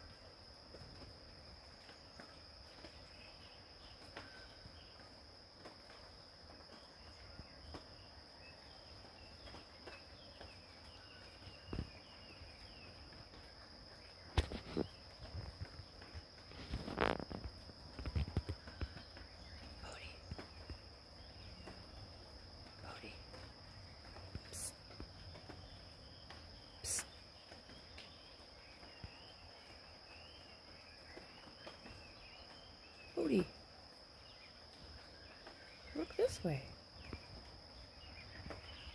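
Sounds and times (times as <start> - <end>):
high-pitched insect trill: 0.0 - 38.9
faint bird chirps: 1.8 - 5.2, 6.6 - 38.9.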